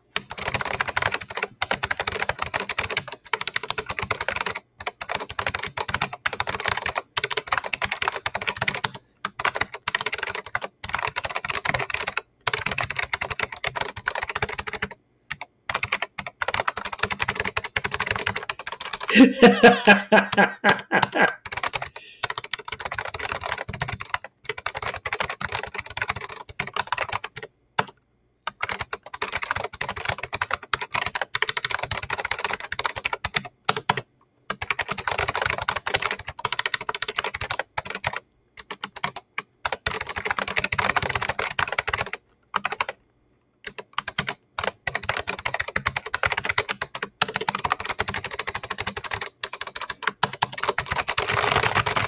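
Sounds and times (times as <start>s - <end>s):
fast keyboard typing: 0.0s - 43.0s, 43.6s - 52.0s.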